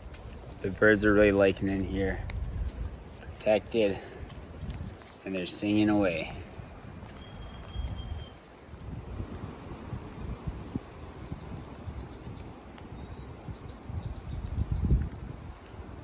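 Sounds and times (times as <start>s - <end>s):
small songbirds chirping: 0.0s - 16.0s
wind gusting against microphone: 0.0s - 16.0s.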